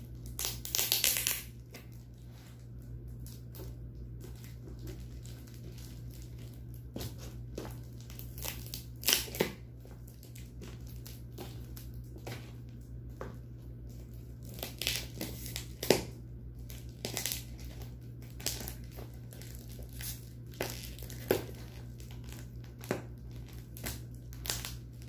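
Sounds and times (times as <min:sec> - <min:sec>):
plastic crinkling and tearing: 0:00.0 - 0:12.8, 0:13.8 - 0:25.0.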